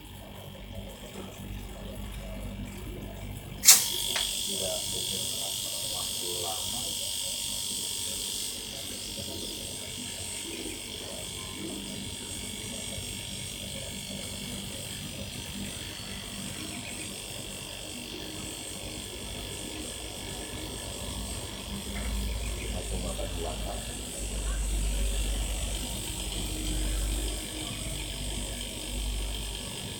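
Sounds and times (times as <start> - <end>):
compressor buzzing hum: 0.0 - 29.9.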